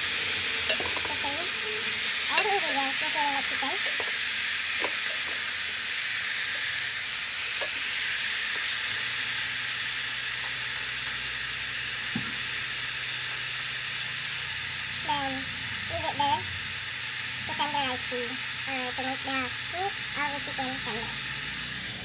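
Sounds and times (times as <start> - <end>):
chicken sizzling in a pot: 0.0 - 22.0.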